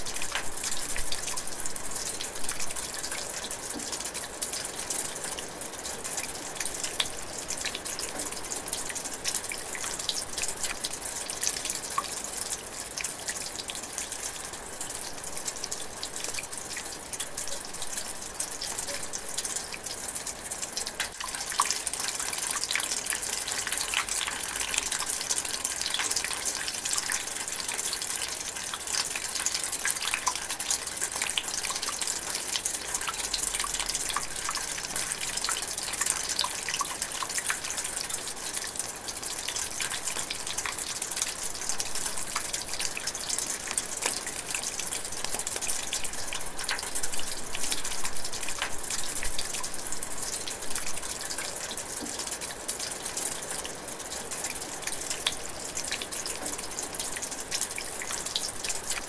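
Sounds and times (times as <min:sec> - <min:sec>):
light rain hissing: 0:00.0 - 0:59.0.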